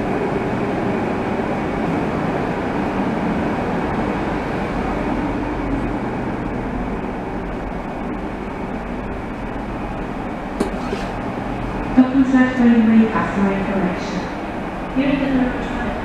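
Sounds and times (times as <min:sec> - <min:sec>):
train equipment hum and rumble: 0:00.0 - 0:16.0.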